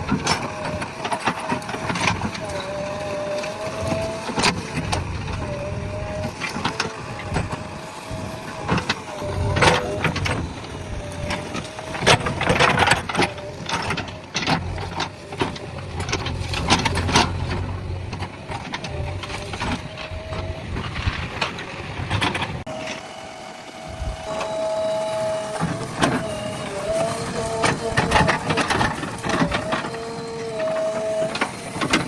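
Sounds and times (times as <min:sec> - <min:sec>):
diesel engine working: 0:00.0 - 0:32.0
steady whine: 0:05.2 - 0:32.0.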